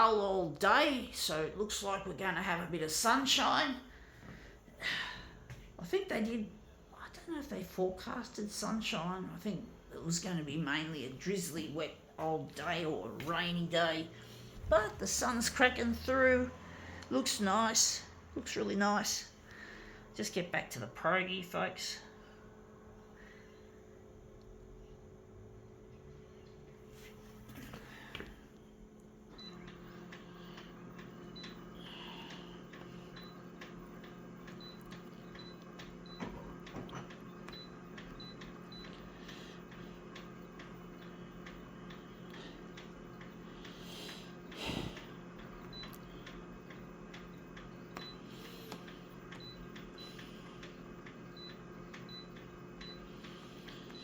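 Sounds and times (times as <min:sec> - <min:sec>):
machine hum: 0:00.1 - 0:54.0.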